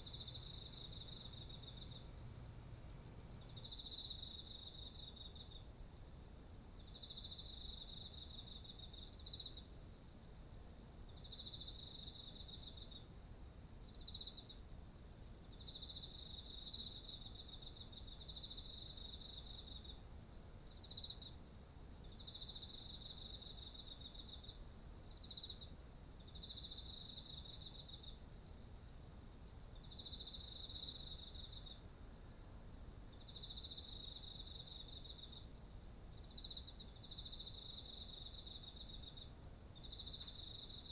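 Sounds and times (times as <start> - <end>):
lower pulsed insect trills: 0.0 - 40.9
steady high insect trill: 6.9 - 40.9.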